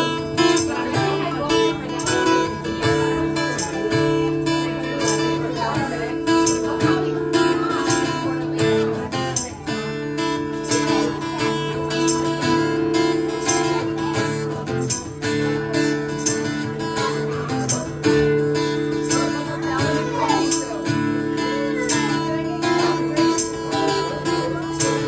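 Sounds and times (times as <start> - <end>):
acoustic guitar strumming: 0.0 - 25.0
tambourine shaking: 0.0 - 25.0.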